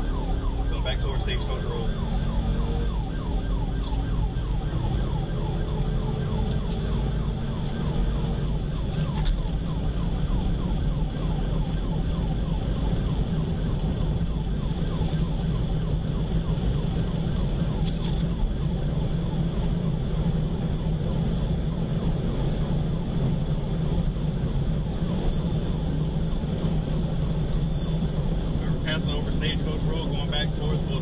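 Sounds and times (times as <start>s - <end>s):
police siren yelping: 0.0s - 31.0s
vehicle engine and road noise: 0.0s - 31.0s.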